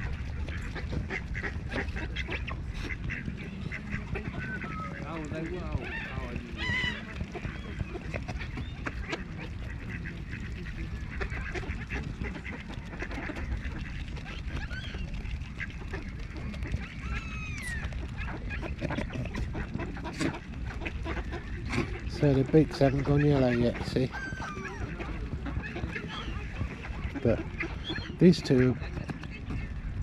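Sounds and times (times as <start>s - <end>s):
geese honking: 0.0s - 29.7s
ducks quacking: 0.0s - 30.0s.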